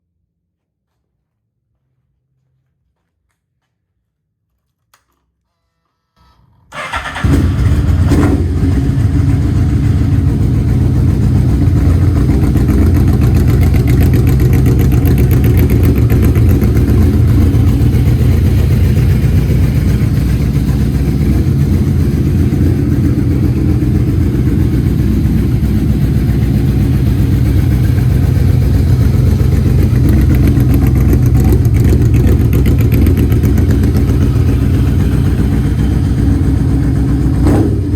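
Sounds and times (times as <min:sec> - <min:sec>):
motorcycle engine starting and idling: 0:06.5 - 0:37.9.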